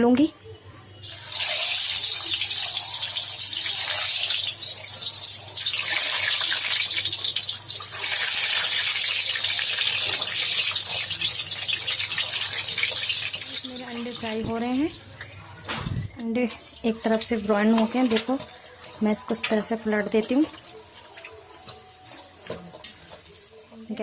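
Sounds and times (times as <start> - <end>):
eggs sizzling in hot oil: 1.0 - 24.0.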